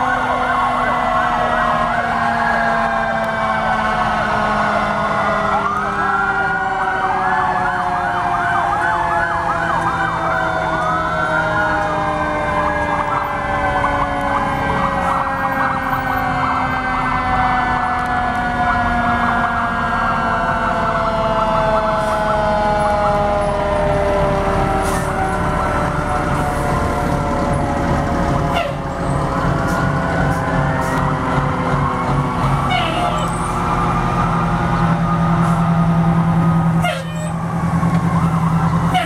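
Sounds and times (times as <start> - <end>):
electronic siren sweeps: 0.0 - 39.0
long steady siren tone: 0.0 - 39.0
truck engines rumbling: 0.0 - 39.0.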